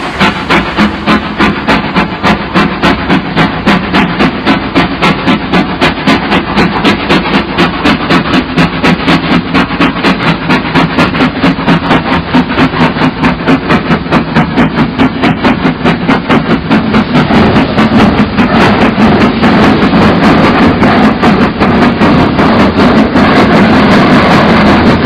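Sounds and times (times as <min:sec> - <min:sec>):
train running rhythmically: 0:00.0 - 0:25.0.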